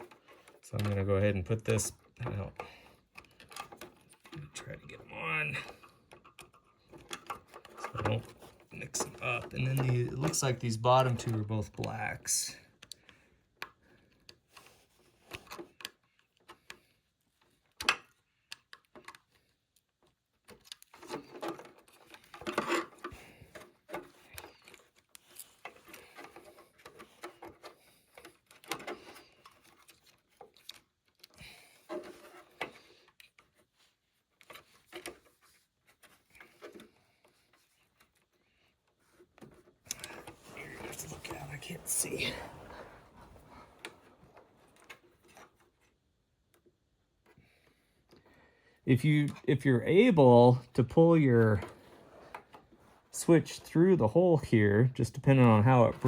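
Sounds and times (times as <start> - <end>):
light clicks and scrapes of wiring: 0.0 - 54.0.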